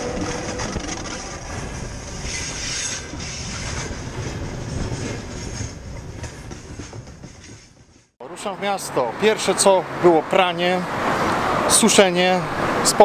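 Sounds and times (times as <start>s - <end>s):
passenger train passing: 0.0s - 12.9s.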